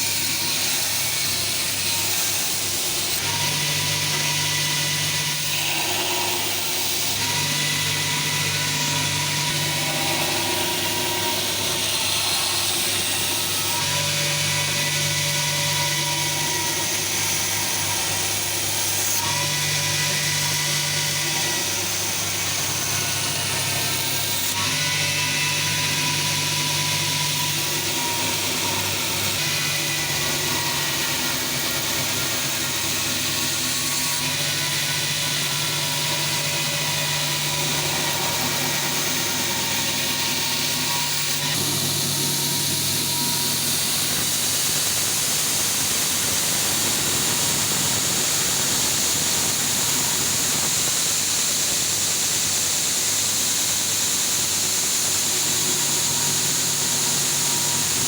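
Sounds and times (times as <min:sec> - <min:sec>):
belt grinder motor hum: 0:00.0 - 0:51.4.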